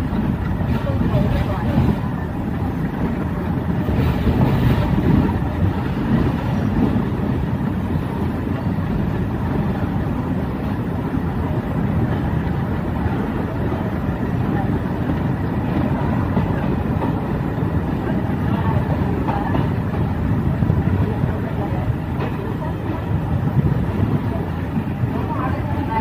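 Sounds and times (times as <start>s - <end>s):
train wheels rumbling: 0.0s - 26.0s
wind buffeting microphone: 0.0s - 26.0s.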